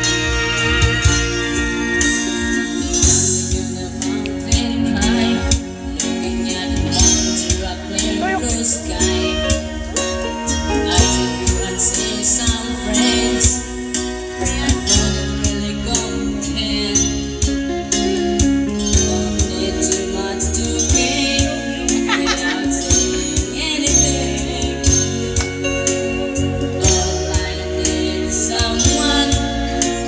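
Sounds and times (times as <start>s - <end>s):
guitar and instruments: 0.0s - 30.0s
person singing: 2.4s - 30.0s.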